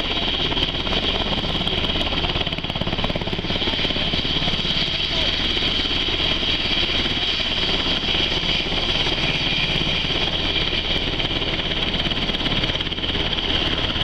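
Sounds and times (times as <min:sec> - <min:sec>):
helicopter rotor blades beating: 0:00.0 - 0:14.0
helicopter turbine whine: 0:00.0 - 0:14.0.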